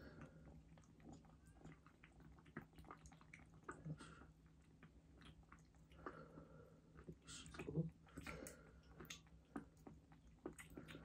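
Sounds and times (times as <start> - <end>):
kitten suckling from bottle: 0.0 - 11.0.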